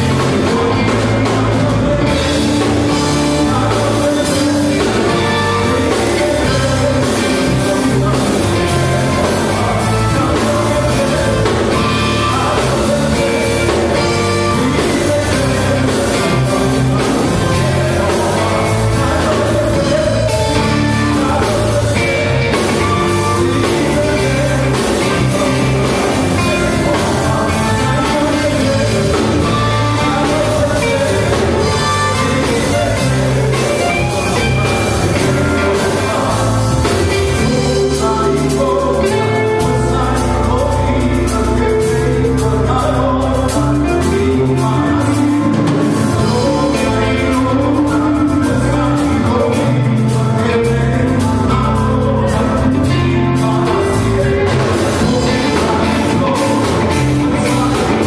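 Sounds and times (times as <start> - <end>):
electric bass: 0.0 - 58.0
electric guitar: 0.0 - 58.0.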